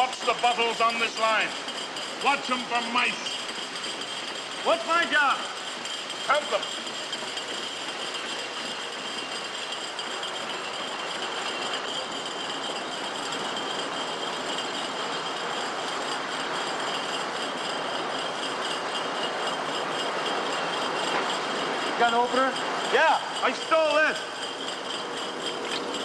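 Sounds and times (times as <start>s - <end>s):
glass bottles clinking on conveyor: 0.0s - 26.0s
thin high whine: 0.0s - 26.0s.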